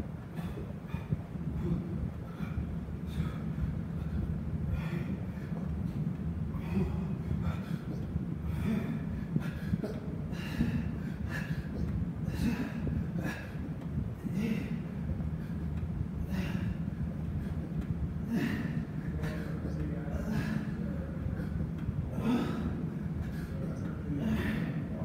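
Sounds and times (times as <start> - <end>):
steady low hum: 0.0 - 25.0
man breathing hard: 0.1 - 25.0.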